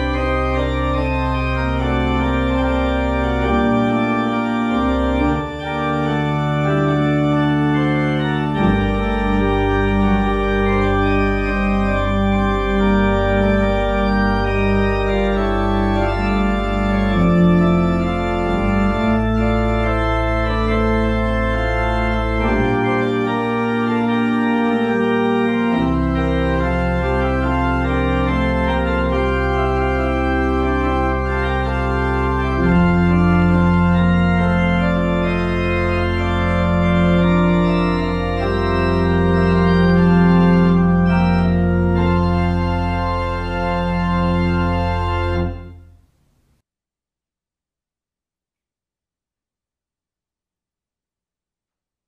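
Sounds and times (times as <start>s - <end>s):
pipe organ playing chords: 0.0s - 46.0s.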